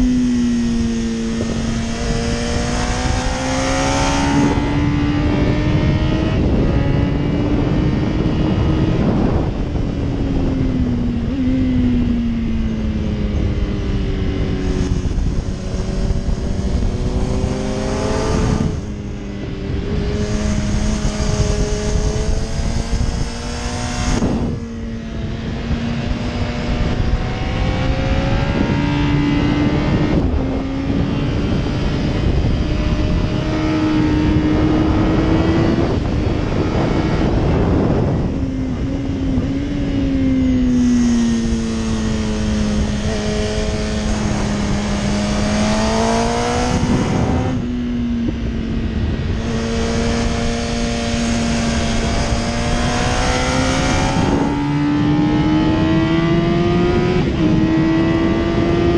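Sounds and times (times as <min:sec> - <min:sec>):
motorcycle engine revving high: 0:00.0 - 0:58.9
wind rush on microphone: 0:00.0 - 0:58.9.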